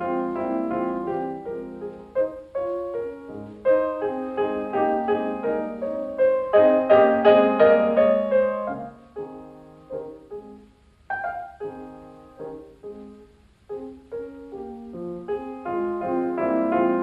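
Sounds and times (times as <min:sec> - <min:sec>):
piano notes and chords: 0:00.0 - 0:17.0.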